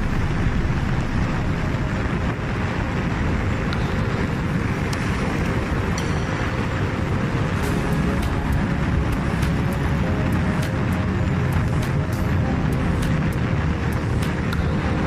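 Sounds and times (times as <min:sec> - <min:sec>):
motorcycle engines running: 0:00.0 - 0:15.0
wind noise on microphone: 0:00.0 - 0:15.0.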